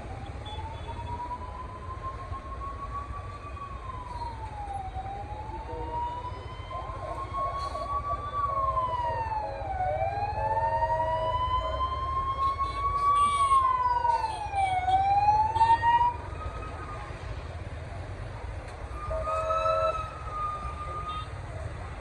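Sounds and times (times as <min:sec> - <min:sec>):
emergency siren wailing: 0:00.0 - 0:22.0
street traffic rumble: 0:00.0 - 0:22.0.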